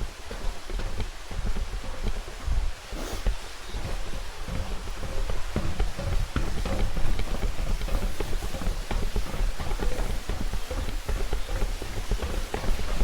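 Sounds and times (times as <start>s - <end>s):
footsteps on rocky trail: 0.0s - 13.0s.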